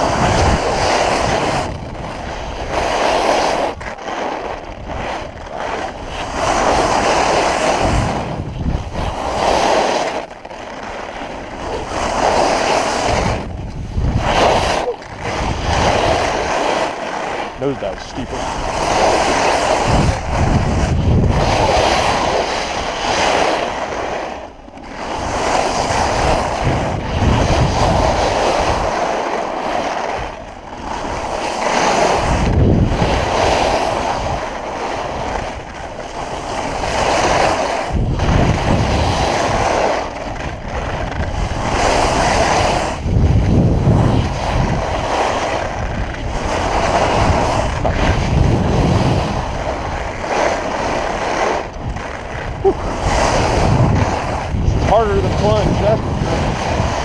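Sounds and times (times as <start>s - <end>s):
skis scraping over snow: 0.0s - 57.0s
wind buffeting microphone: 0.0s - 57.0s.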